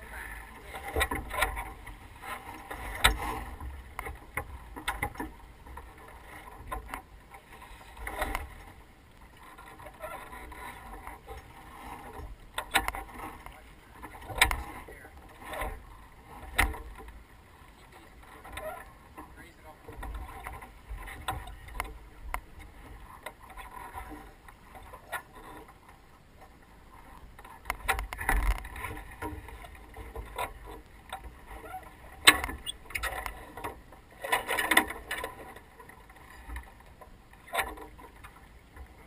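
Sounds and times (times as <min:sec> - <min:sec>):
wind and water rushing: 0:00.0 - 0:39.0.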